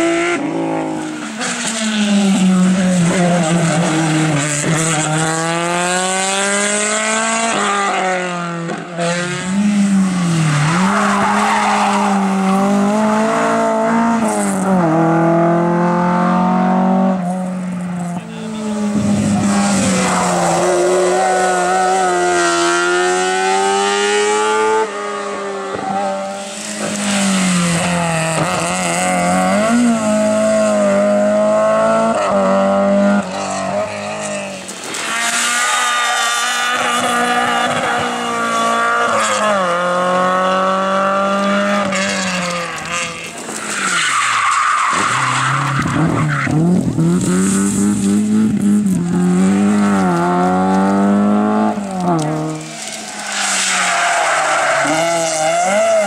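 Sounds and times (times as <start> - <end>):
race car engines at full throttle: 0.0 - 56.0.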